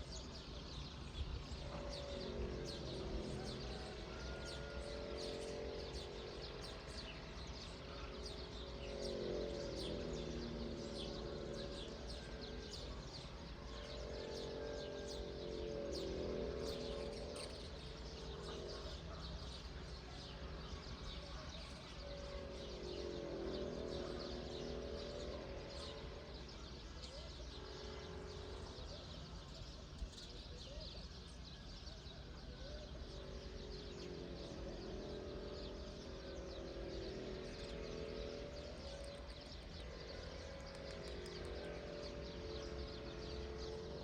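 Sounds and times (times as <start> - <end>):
low outdoor rumble: 0.0 - 44.0
small birds chirping: 0.0 - 44.0.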